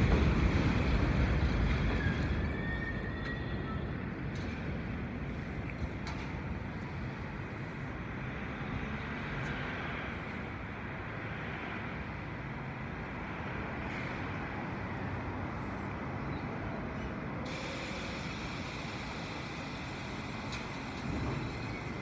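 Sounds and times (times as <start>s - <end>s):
subway train rumbling to a stop: 0.0s - 22.0s.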